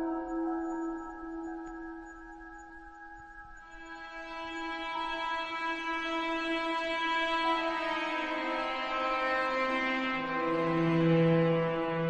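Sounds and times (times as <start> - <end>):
ambient meditation music: 0.0 - 12.0.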